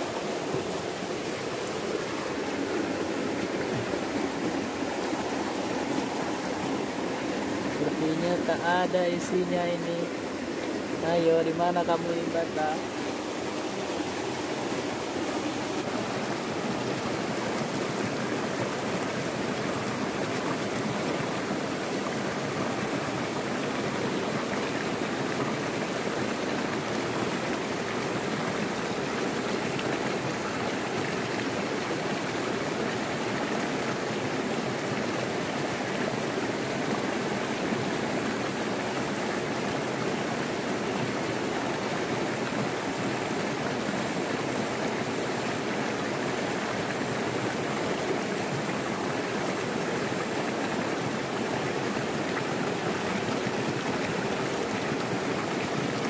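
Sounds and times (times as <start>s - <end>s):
stream pouring over cascade: 0.0s - 56.0s.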